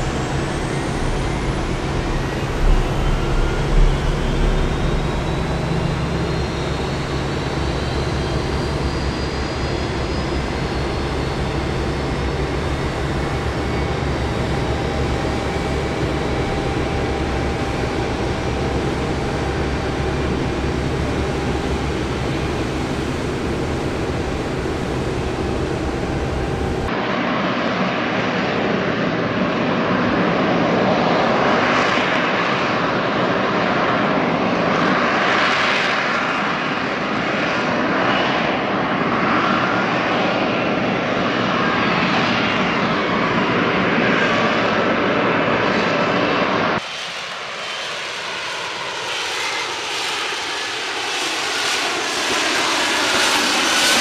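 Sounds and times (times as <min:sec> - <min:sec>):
jet aircraft flying slowly: 0:00.0 - 0:54.0
jet engine running on ground: 0:00.0 - 0:54.0.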